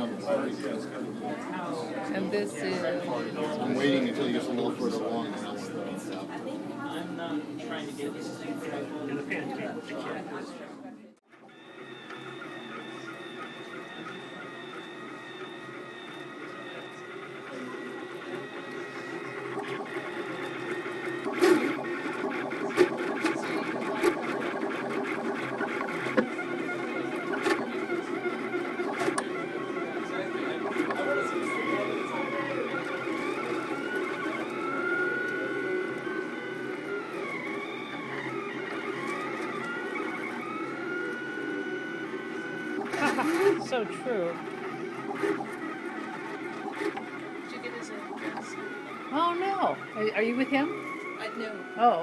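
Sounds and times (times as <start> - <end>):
stepper motors whirring: 0.0 - 10.5, 11.4 - 52.0.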